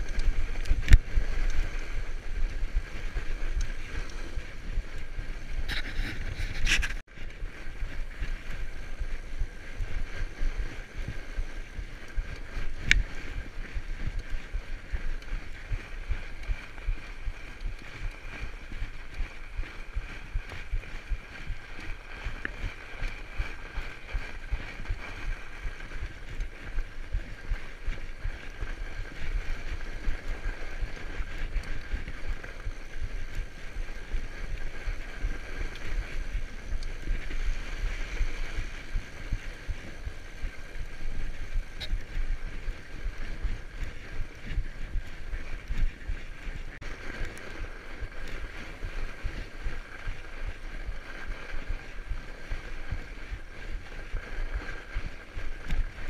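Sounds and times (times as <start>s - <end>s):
bike rattling: 0.0s - 56.0s
bike tyres crunching on snow: 0.0s - 56.0s.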